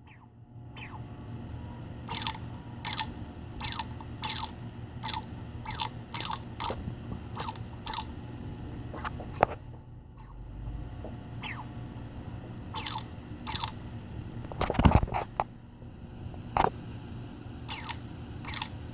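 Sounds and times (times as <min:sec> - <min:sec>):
low hum: 0:00.0 - 0:18.9.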